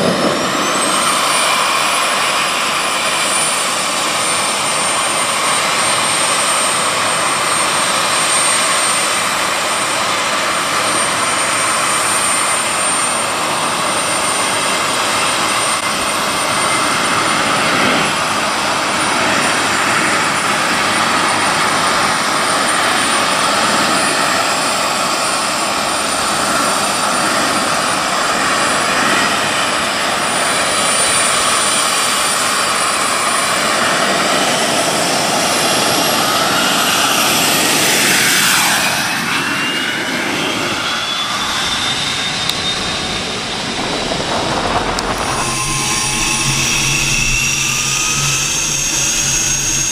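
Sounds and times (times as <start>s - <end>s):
gas turbine engine whine: 0.0s - 49.9s.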